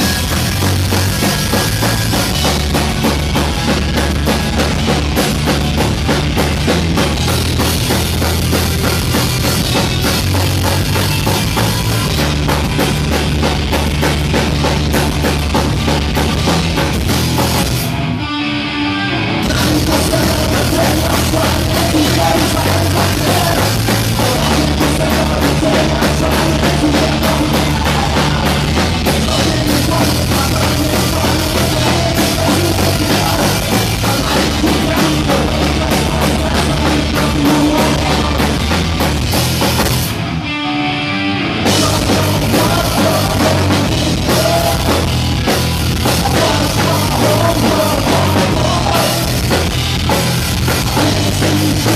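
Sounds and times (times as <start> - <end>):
drum kit: 0.0 - 18.4, 19.2 - 40.3, 41.6 - 51.9
guitars: 0.0 - 51.9
punk rock band playing: 0.0 - 51.9.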